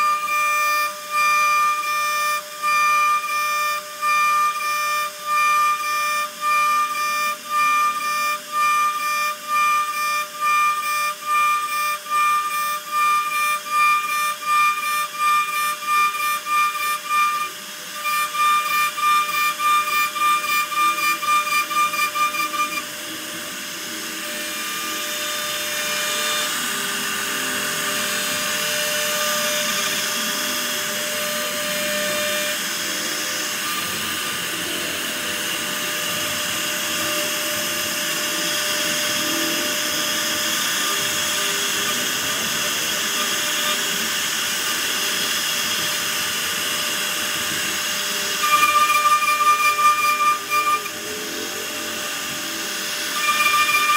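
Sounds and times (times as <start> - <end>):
power tool cutting wood: 0.0 - 53.9.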